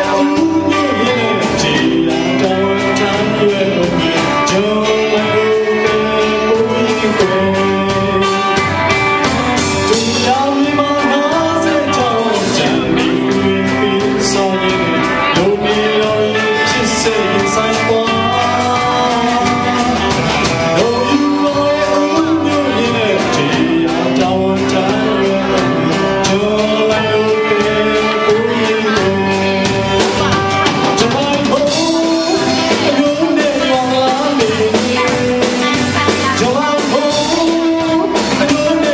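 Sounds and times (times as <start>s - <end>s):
song with band accompaniment: 0.0s - 38.9s.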